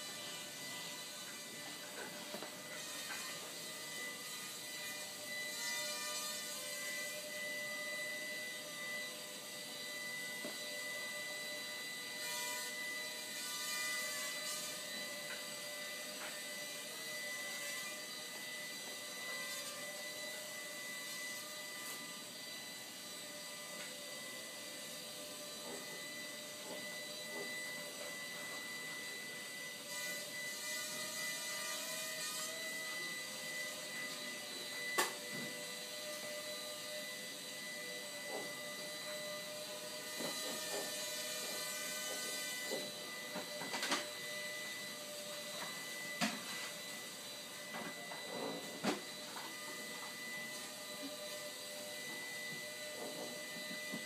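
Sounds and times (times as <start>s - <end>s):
quadcopter motors whining: 0.0s - 54.0s.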